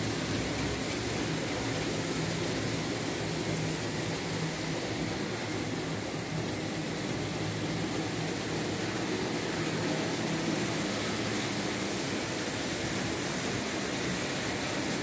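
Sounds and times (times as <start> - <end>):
model train motors whirring: 0.0 - 15.0
wheels rolling on track: 0.0 - 15.0.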